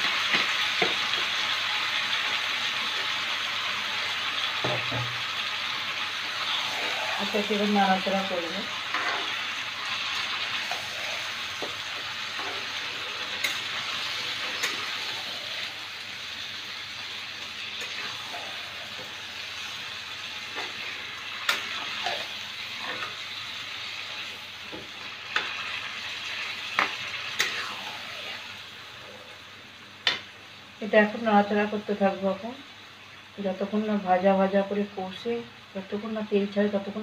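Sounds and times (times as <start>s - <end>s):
meat sizzling in hot oil: 0.0s - 35.2s.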